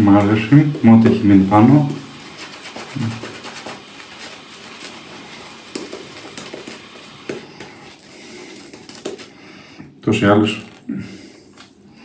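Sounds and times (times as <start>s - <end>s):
shaving brush rubbing lather: 0.0s - 9.6s.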